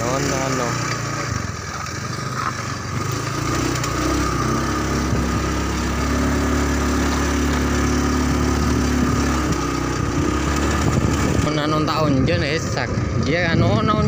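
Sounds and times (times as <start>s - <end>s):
motorbike engine running: 0.0s - 14.0s.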